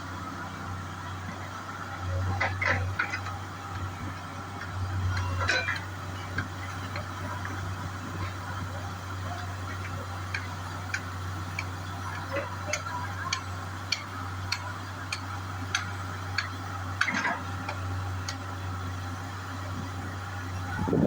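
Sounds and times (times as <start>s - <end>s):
diesel engine idling: 0.0s - 21.0s
engine clatter: 0.0s - 21.0s
regular engine tick: 2.2s - 19.9s.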